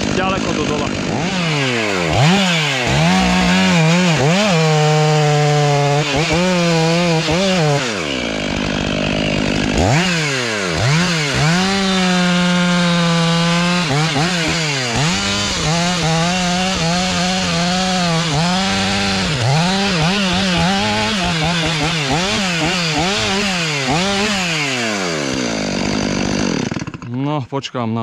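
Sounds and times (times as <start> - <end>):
chainsaw cutting wood: 0.0 - 27.2.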